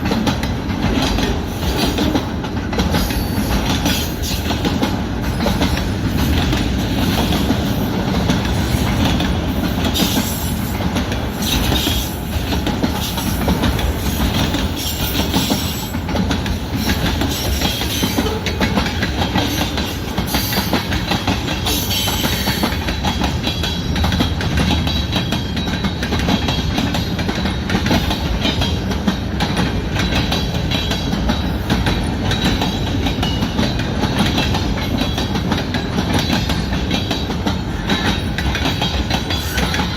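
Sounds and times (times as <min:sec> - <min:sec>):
train wheels clacking over rail joints: 0:00.0 - 0:39.9.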